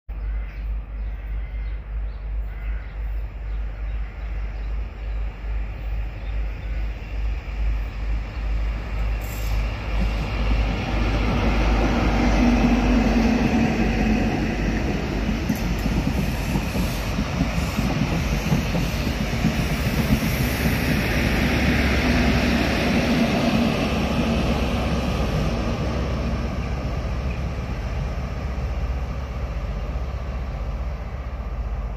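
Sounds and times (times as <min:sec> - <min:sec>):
diesel train passing: 0:00.1 - 0:31.9
train wheel noise: 0:04.8 - 0:31.9.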